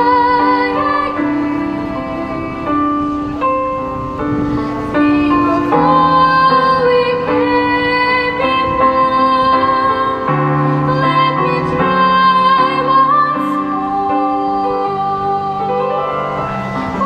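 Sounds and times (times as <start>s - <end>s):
girl singing classical style: 0.0s - 17.0s
piano accompaniment: 0.0s - 17.0s.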